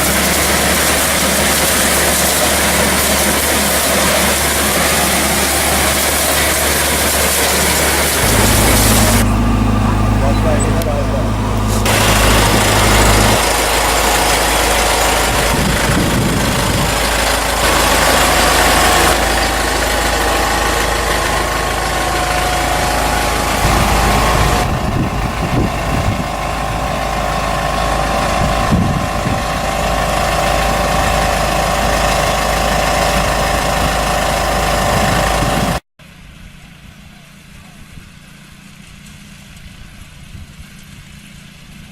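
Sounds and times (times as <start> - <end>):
harvesting machine engine running: 0.0 - 35.8.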